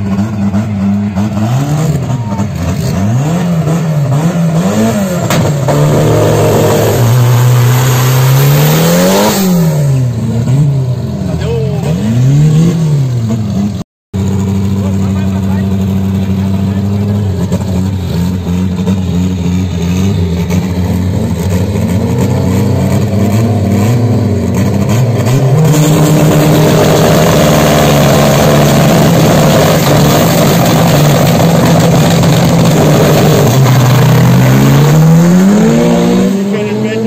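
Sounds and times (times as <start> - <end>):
drag car engine revving: 0.0 - 37.0.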